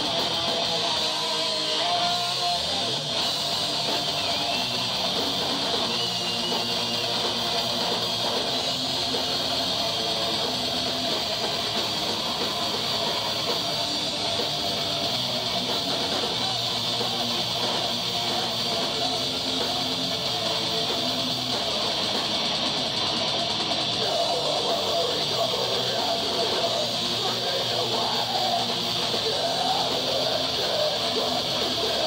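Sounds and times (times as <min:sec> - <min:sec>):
bass guitar: 0:00.0 - 0:32.0
distorted electric guitars: 0:00.0 - 0:32.0
drums: 0:00.0 - 0:32.0.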